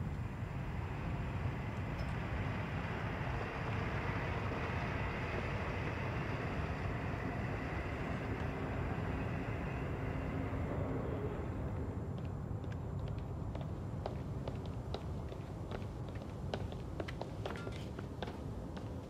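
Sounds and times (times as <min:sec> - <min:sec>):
distant vehicle engines rumbling: 0:00.0 - 0:19.0
faint engine hum: 0:00.0 - 0:19.0.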